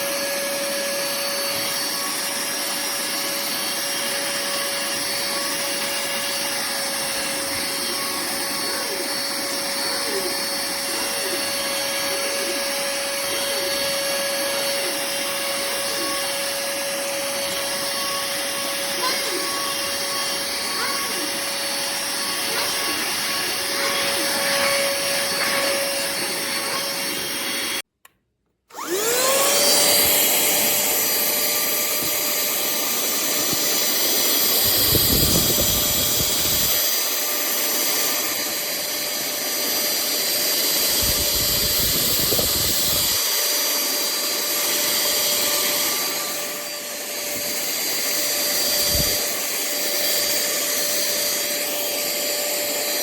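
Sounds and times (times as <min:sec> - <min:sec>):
handheld vacuum cleaner whine: 0:00.0 - 0:27.9, 0:28.7 - 0:53.0.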